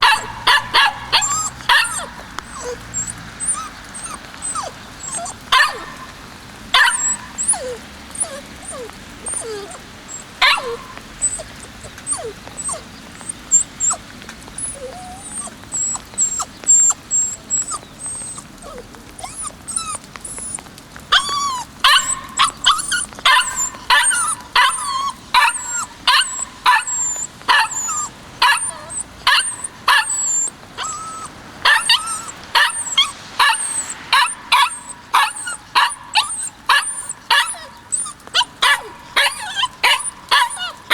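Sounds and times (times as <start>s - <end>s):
puppy yipping and barking: 0.0s - 40.9s.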